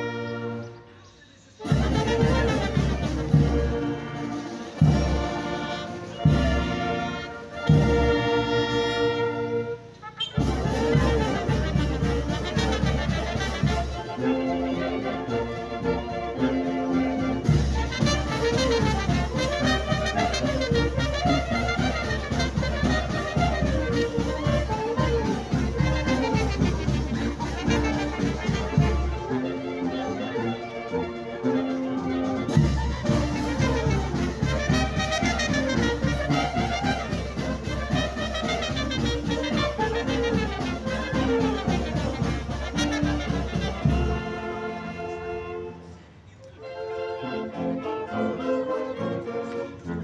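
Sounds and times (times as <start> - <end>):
brass band playing: 0.0 - 50.0.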